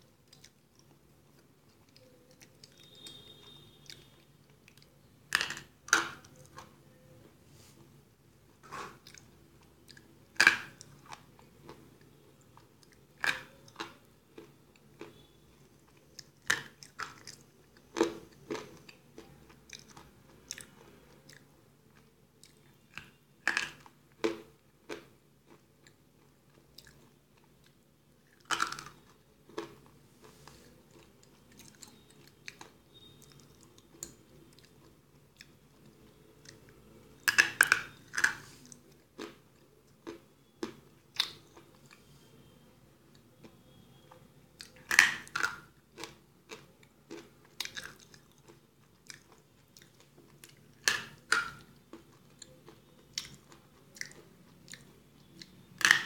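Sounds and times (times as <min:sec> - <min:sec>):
soft grinding chews: 0:00.2 - 0:05.1, 0:06.2 - 0:15.2, 0:15.8 - 0:23.2, 0:23.8 - 0:42.4, 0:43.1 - 0:55.9.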